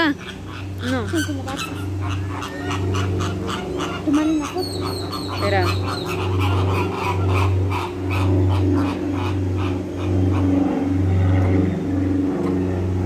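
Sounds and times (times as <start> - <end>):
flamingos honking: 0.0 - 13.0
loud low hum: 0.0 - 13.0.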